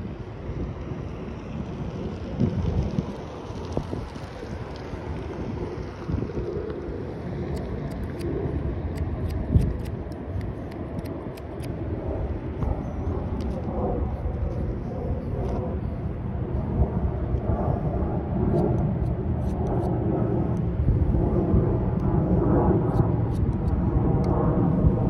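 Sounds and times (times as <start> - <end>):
passing traffic rumble: 0.0 - 25.0
wind buffeting microphone: 0.0 - 25.0.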